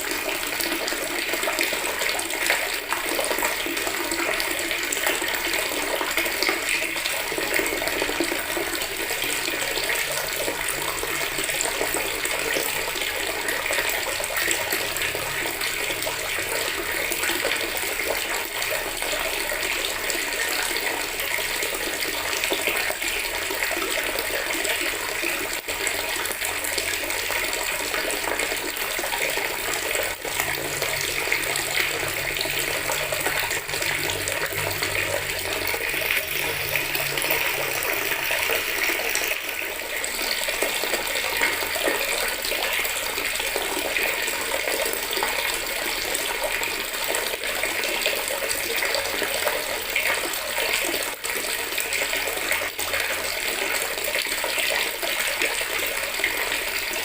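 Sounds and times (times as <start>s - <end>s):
tap water pouring into bucket: 0.0s - 57.0s.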